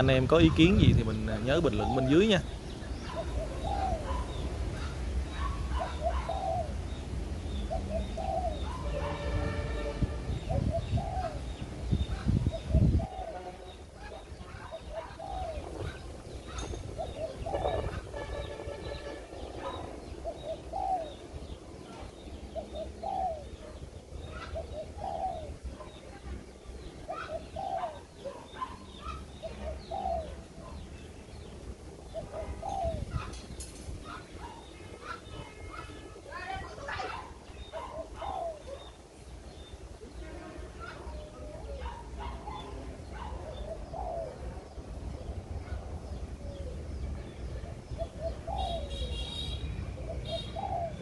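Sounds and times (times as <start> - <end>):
small birds chirping: 0.0 - 51.0
dove cooing: 1.6 - 7.0, 7.6 - 18.5, 19.4 - 26.2, 26.8 - 30.9, 32.0 - 47.0, 47.9 - 51.0.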